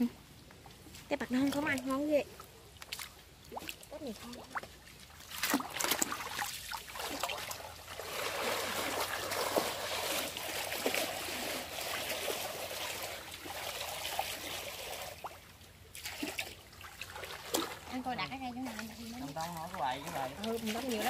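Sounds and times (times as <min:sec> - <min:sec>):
pond water sloshing: 0:00.0 - 0:21.0
small splashes: 0:00.9 - 0:21.0.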